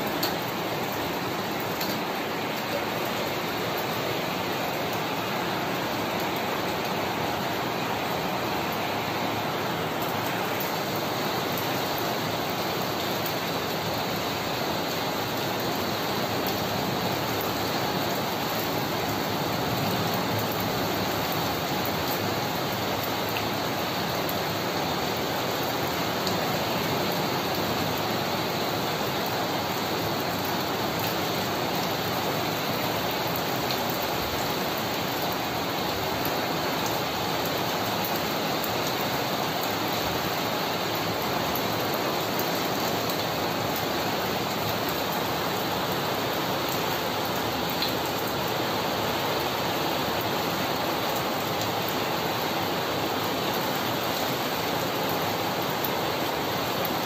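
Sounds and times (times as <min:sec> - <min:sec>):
heavy rain on pavement: 0:00.0 - 0:57.0.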